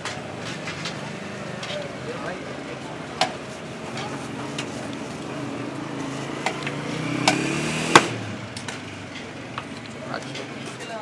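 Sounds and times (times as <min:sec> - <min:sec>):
motor vehicle passing: 0:00.0 - 0:10.9.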